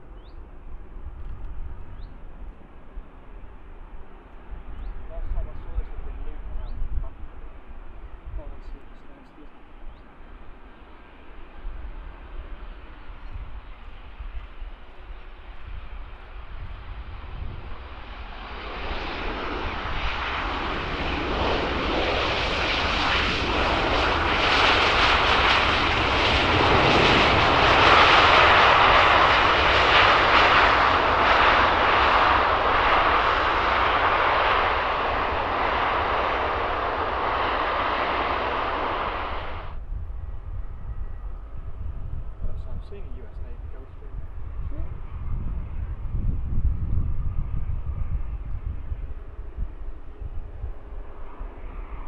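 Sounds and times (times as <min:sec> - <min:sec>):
jet aircraft engine: 0:00.0 - 0:52.0.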